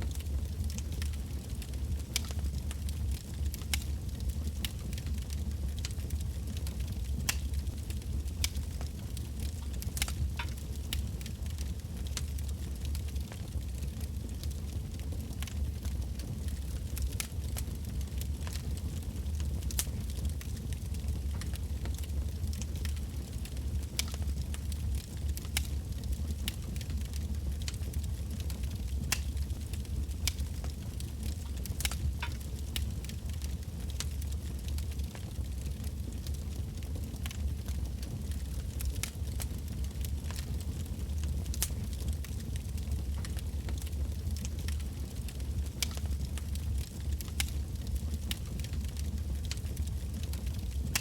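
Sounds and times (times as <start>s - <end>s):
bonfire low rumble: 0.0s - 51.0s
burning logs crackling and popping: 0.0s - 51.0s.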